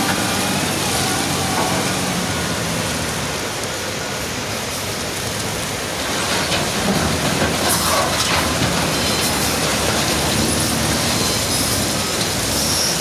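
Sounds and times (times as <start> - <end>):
wheel loader running: 0.0 - 13.0.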